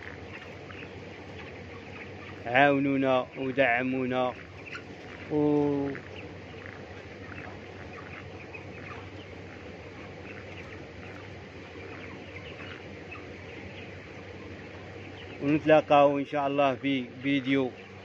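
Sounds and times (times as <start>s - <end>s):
chickens peeping and chirping: 0.0s - 18.0s
ventilation fan hum: 0.0s - 18.0s.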